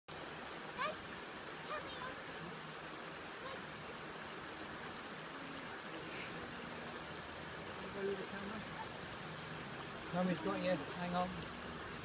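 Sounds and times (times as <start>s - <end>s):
rushing river and waterfall: 0.1s - 12.0s.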